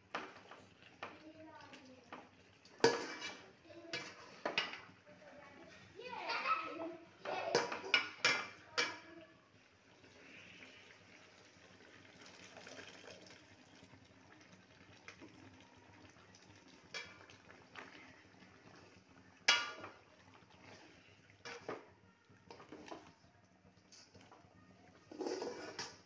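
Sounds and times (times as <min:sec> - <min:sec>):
chicken sizzling in pot: 0:00.0 - 0:26.0.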